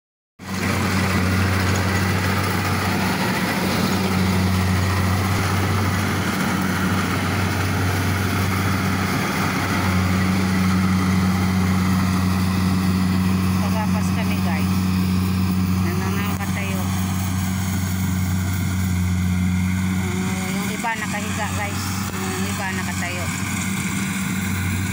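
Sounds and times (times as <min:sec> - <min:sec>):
diesel engine hum: 0:00.4 - 0:24.9
whirring machinery: 0:00.5 - 0:24.9.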